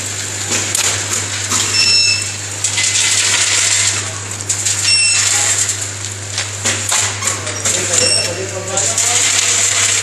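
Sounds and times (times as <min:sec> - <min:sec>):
packaging machine hum: 0:00.0 - 0:10.0.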